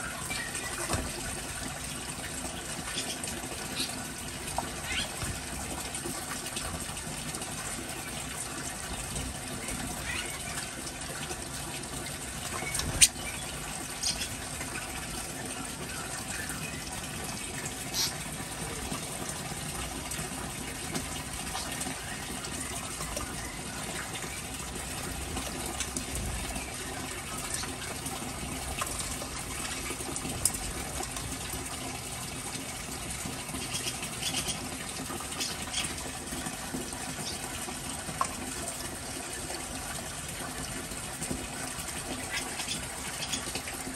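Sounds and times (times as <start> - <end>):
running water rushing: 0.0 - 43.9.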